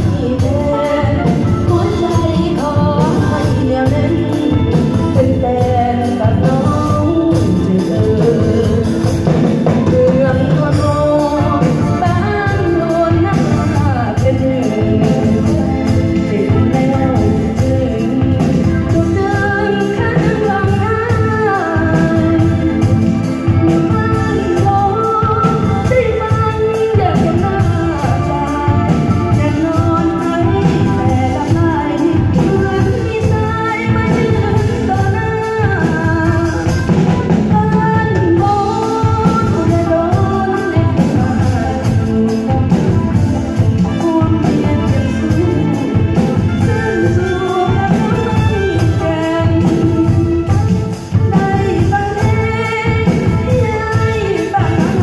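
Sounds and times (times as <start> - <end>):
person singing with band: 0.0 - 55.0
regular drum beat: 0.0 - 55.0.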